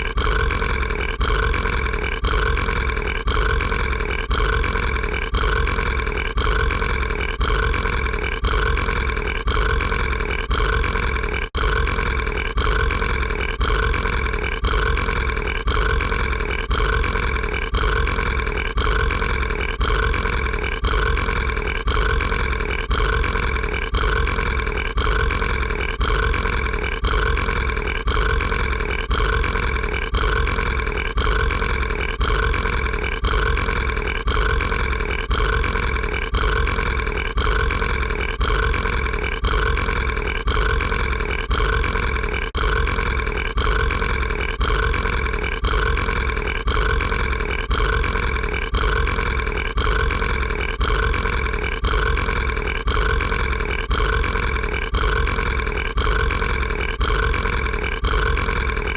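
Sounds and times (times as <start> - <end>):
monster burping: 0.0 - 58.9.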